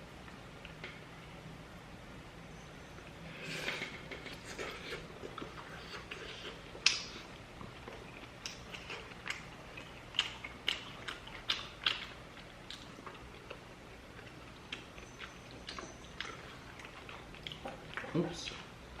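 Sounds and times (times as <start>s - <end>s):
soft mouth noises: 3.3s - 18.7s.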